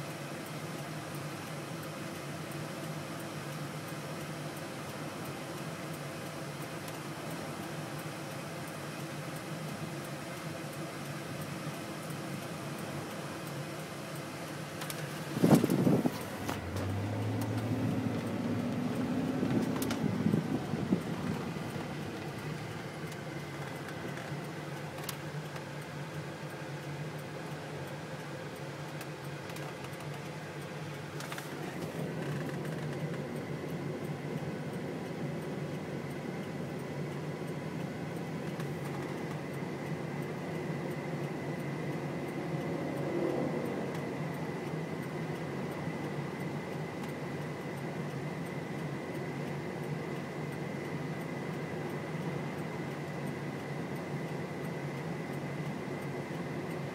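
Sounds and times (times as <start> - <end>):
vehicle engine and fan hum: 0.0 - 56.9.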